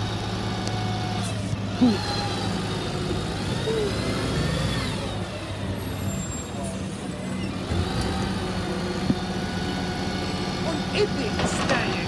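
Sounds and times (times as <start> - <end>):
lorry engine idling: 0.0 - 12.0.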